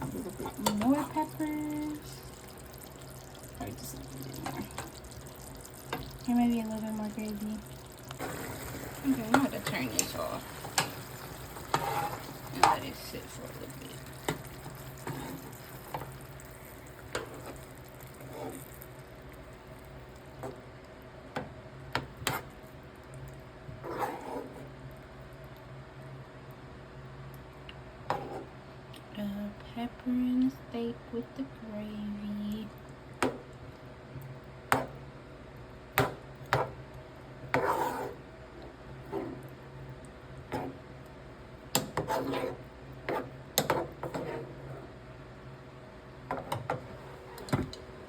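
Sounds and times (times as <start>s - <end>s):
pan bubbling and sizzling: 0.0s - 28.7s, 32.1s - 45.3s
steady low hum: 0.0s - 48.0s.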